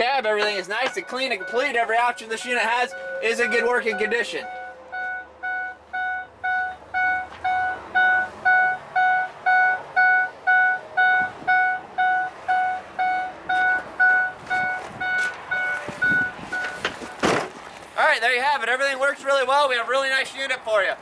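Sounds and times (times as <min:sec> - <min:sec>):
truck cab warning beeps: 0:00.0 - 0:17.4.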